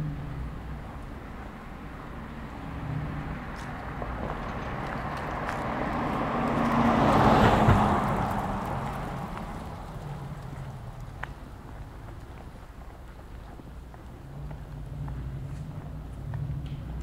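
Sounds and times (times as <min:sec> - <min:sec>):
car passing: 0:00.0 - 0:17.0.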